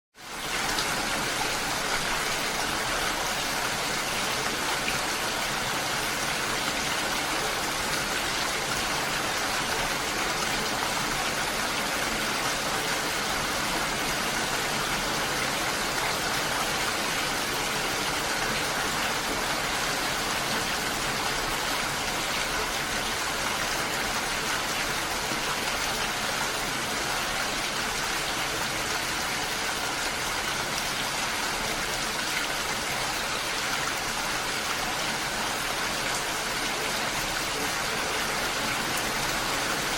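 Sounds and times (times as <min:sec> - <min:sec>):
steady rainfall: 0:00.2 - 0:39.9.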